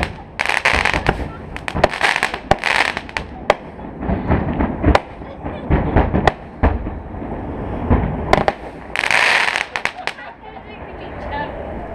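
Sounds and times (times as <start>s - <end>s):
fireworks cracks and booms: 0.0s - 10.3s.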